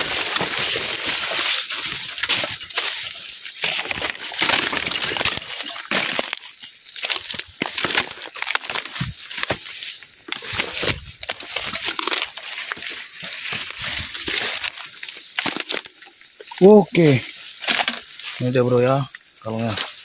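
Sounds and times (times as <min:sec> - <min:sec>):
leaves and stems rustling: 0:00.0 - 0:20.0.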